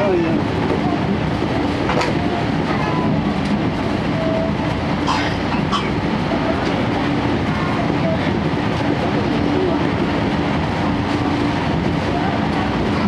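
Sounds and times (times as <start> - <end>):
wheels rumbling on rails: 0.0 - 13.0
rail joint clicks: 0.4 - 13.0.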